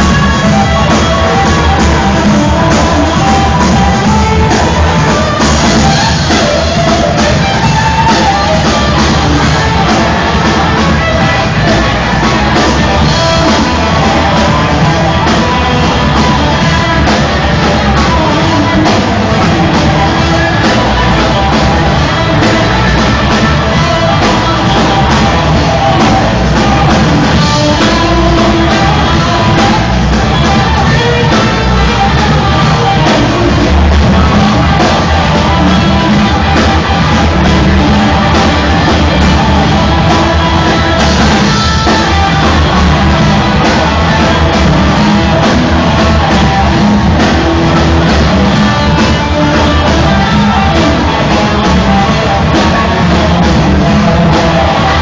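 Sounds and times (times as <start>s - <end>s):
crowd shouting: 0.0s - 55.0s
rock music with singing: 0.0s - 55.0s.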